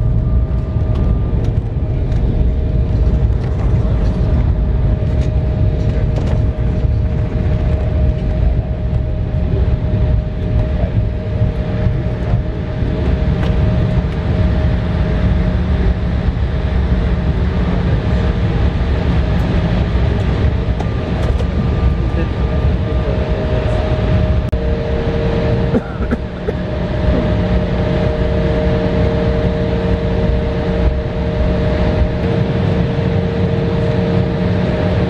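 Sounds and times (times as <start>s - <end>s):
faint jet engine whine: 0.0s - 35.0s
low rumble of wheels and engines: 0.0s - 35.0s.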